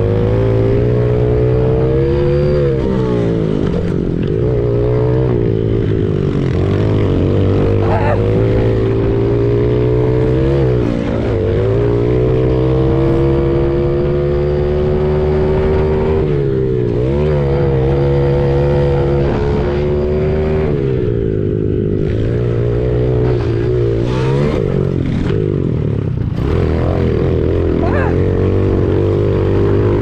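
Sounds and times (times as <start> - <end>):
small motorcycle engine revving: 0.0 - 30.0.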